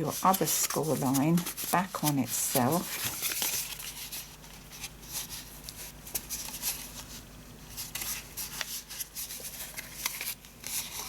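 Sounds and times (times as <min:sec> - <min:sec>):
cardstock rustling: 0:00.0 - 0:11.0.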